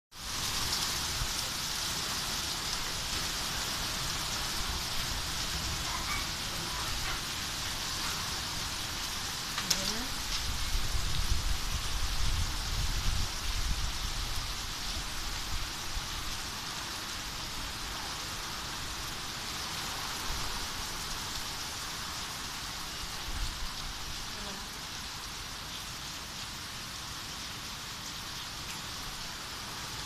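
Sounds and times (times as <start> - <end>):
heavy rain hissing: 0.1 - 30.0.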